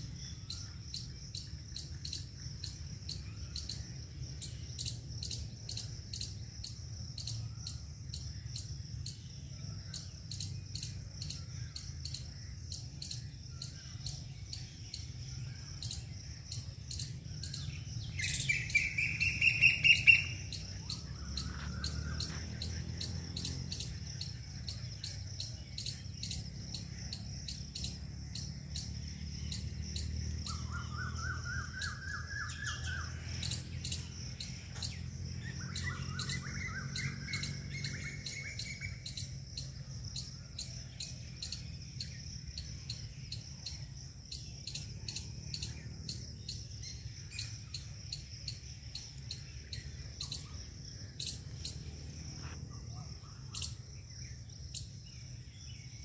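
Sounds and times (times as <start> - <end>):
birds chirping: 0.0 - 56.0
rapid bird calls: 0.0 - 56.0.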